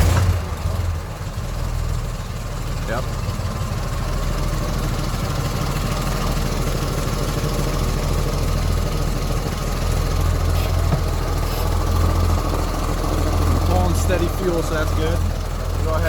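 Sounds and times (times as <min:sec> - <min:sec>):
fire truck engine idling: 0:00.0 - 0:16.0.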